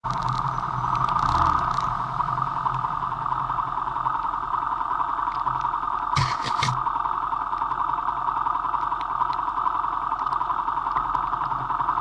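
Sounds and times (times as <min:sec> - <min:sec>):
motorcycle engine hum: 0:00.0 - 0:12.0.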